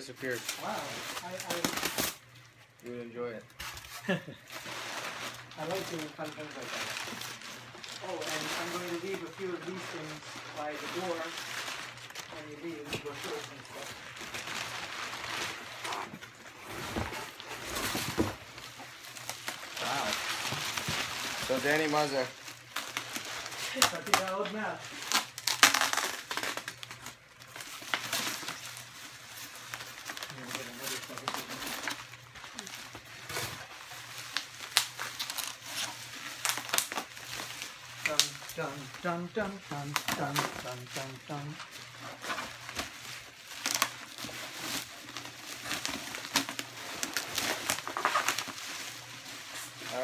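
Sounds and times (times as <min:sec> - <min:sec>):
paper and plastic wrap crinkling: 0:00.0 - 0:50.0.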